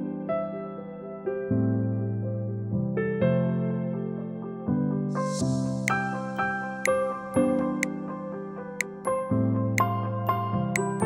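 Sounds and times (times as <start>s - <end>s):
gentle piano notes: 0.0s - 11.0s.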